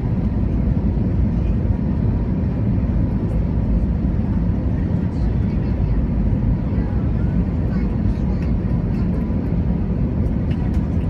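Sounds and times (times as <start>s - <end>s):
aircraft engines and airflow rumble: 0.0s - 11.0s.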